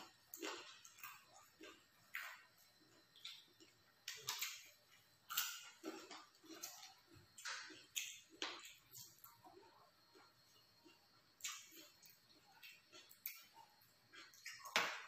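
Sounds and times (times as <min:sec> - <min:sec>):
person chewing with wet smacks: 0:00.0 - 0:15.0.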